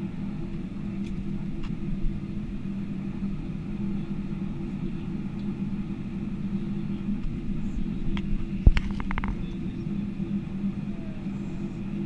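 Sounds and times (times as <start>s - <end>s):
aircraft cabin engine drone: 0.0s - 12.0s.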